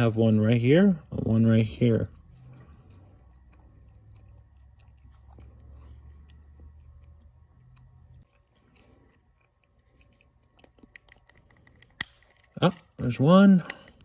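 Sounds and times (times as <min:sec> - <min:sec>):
small clicks and scrapes: 0:02.1 - 0:14.0.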